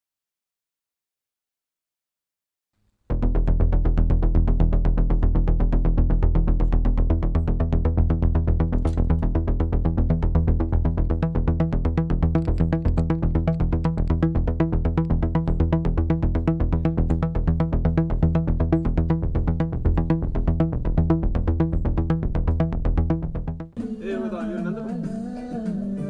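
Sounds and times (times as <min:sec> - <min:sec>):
electronic music with heavy bass: 0:03.1 - 0:26.0.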